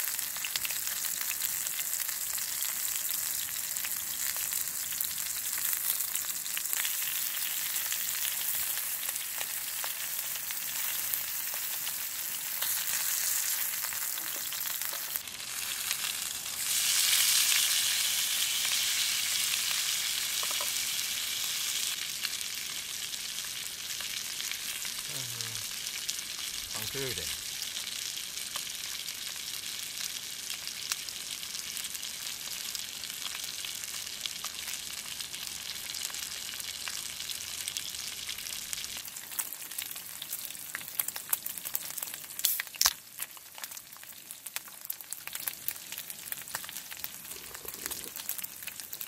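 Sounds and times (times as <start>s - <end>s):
meat sizzling in a frying pan: 0.0s - 49.0s.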